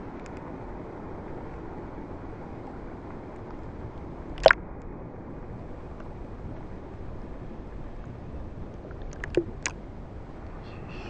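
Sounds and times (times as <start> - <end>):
muffled rush of water: 0.0 - 11.0.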